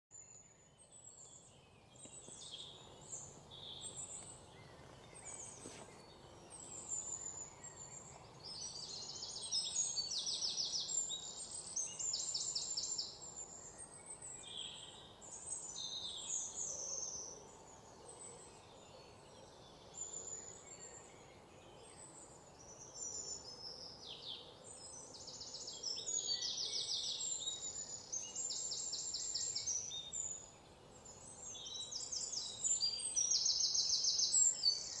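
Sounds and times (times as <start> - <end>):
faint outdoor background: 0.0 - 35.0
small birds chirping and trilling: 0.1 - 35.0.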